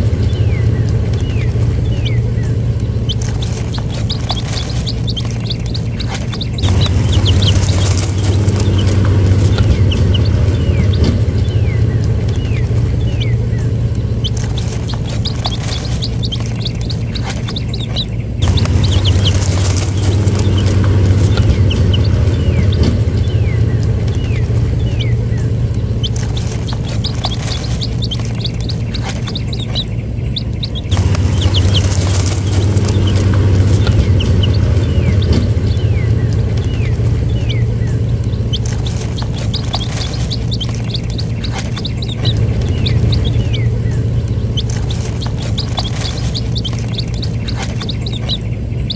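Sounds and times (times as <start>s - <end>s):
baby chicks peeping: 0.0s - 48.9s
steady low hum: 0.0s - 48.9s.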